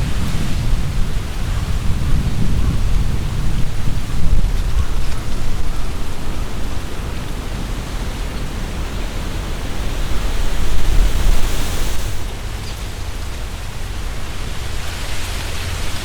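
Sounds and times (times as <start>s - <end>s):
leaves rustling: 0.0s - 16.0s
strong wind gusting through trees: 0.0s - 16.0s
wind buffeting microphone: 0.0s - 16.0s.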